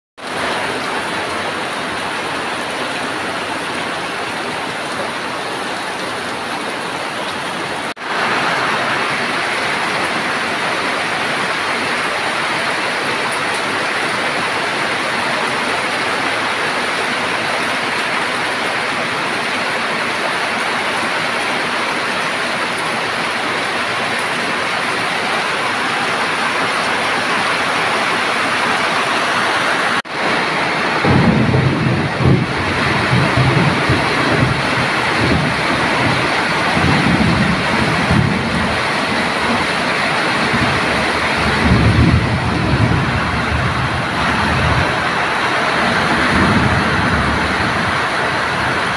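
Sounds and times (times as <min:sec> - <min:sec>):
rain pouring: 0:00.2 - 0:48.9.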